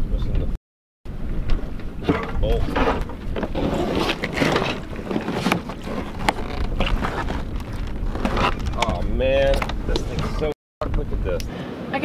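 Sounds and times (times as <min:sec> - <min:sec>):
plastic boat knocking and scraping: 0:01.3 - 0:11.0.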